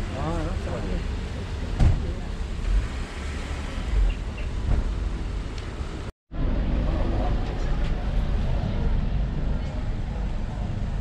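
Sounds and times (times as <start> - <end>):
cars passing on road: 0.0 - 11.0.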